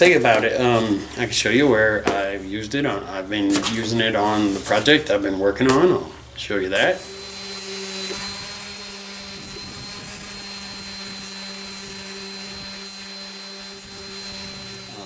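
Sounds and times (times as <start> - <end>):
orbital sander running: 0.0 - 15.0.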